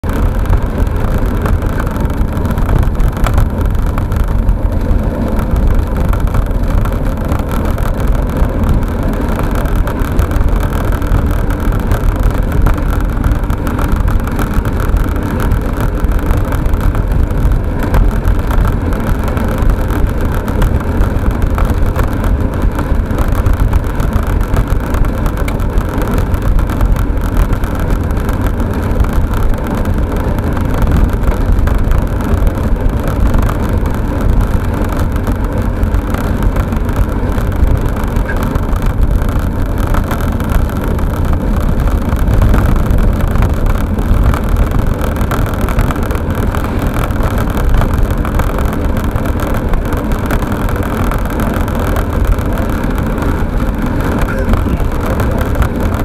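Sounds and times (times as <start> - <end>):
tyre rumble on asphalt: 0.0 - 56.0
wind noise: 0.0 - 56.0.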